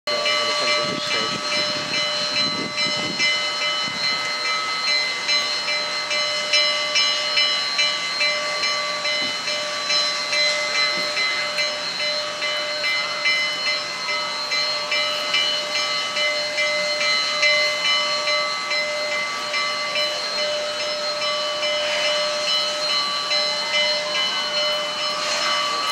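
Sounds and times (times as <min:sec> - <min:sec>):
hiss of escaping steam: 0:00.1 - 0:25.9
locomotive bell ringing: 0:00.1 - 0:25.9
steam locomotive approaching: 0:00.1 - 0:25.9.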